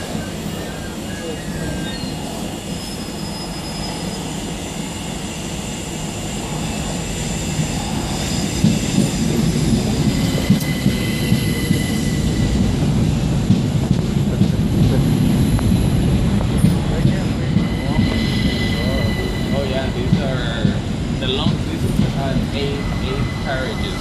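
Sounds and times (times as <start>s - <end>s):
high-pitched squealing: 0.0s - 13.3s, 14.6s - 24.0s
train rumbling on rails: 0.0s - 24.0s.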